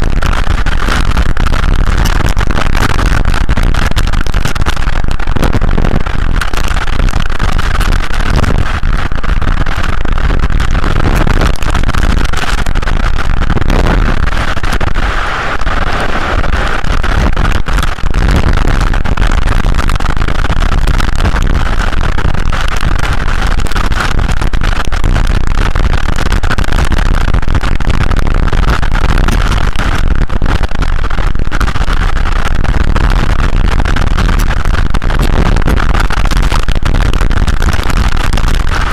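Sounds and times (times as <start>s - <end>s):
microphone crackling: 0.0s - 38.9s
rain: 0.0s - 38.9s
wind: 0.0s - 38.9s.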